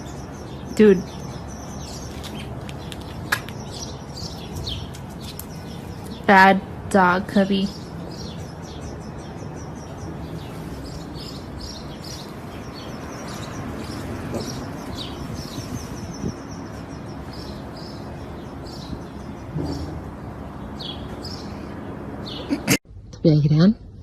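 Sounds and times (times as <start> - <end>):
small birds chirping: 0.0 - 22.8.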